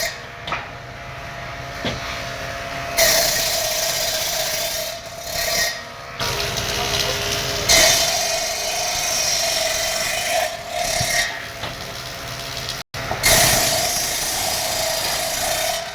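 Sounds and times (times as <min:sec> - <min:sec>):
woodworking machine cutting wood: 0:00.0 - 0:15.9.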